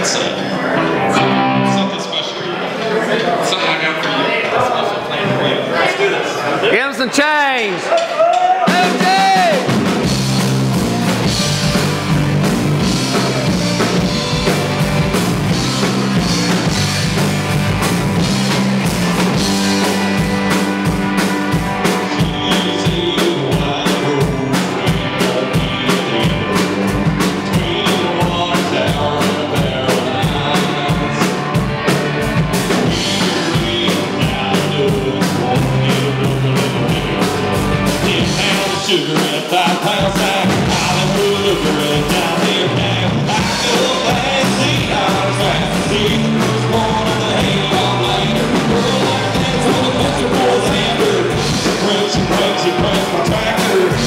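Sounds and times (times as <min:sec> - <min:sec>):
electric guitars: 0:00.0 - 0:04.1, 0:08.8 - 0:54.0
drum kit beat: 0:08.4 - 0:54.0.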